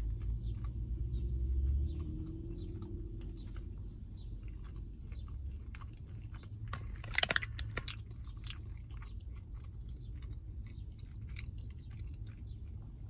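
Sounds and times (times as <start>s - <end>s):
chewing with wet mouth clicks: 0.0s - 13.0s
soft crunching: 0.0s - 13.0s.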